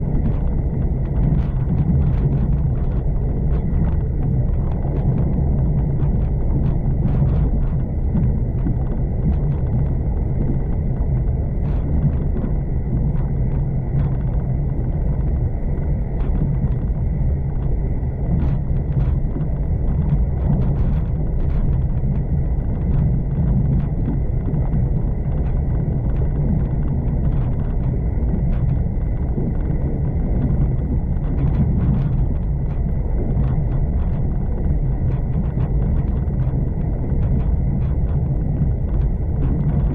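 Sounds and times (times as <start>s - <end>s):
small clicks and rattles: 0.1s - 39.9s.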